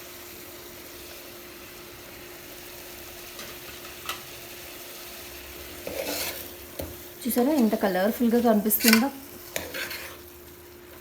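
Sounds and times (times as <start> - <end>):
meat frying in oil sizzling: 0.0 - 11.0.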